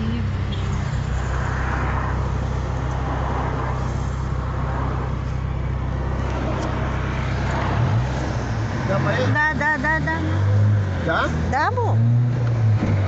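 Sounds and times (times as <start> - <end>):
car engine hum: 0.0 - 13.0
passing traffic: 0.0 - 13.0
road noise: 0.0 - 13.0.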